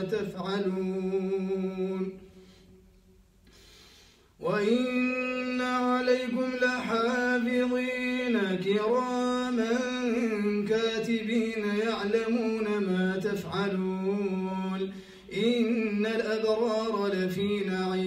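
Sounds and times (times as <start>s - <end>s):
man chanting recitation: 0.0s - 2.3s, 4.4s - 18.0s.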